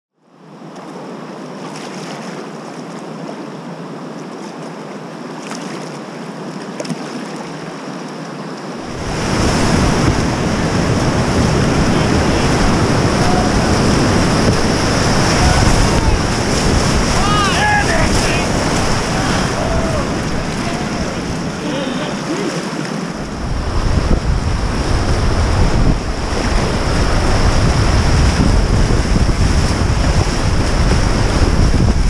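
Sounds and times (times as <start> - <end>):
river water rushing: 0.3 - 32.0
whitewater rapid churning: 1.0 - 32.0.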